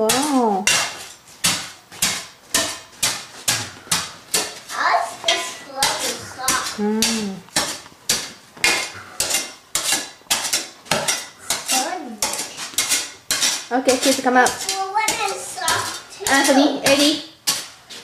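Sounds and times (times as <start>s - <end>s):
hand tool scraping floor: 0.0s - 18.0s.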